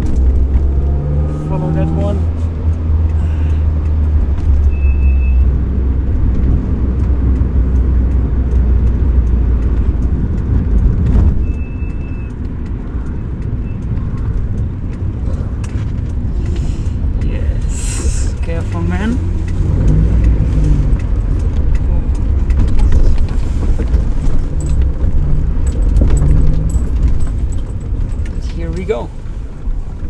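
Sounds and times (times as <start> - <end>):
car engine running: 0.0 - 30.0
road noise: 0.0 - 30.0.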